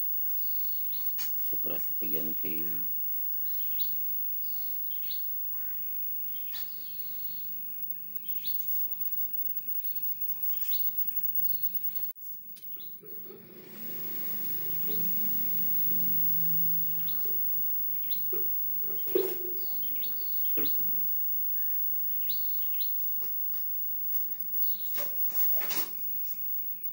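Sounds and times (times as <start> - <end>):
loud steady hiss: 0.0 - 12.1, 13.2 - 26.9
small birds chirping: 0.2 - 25.6.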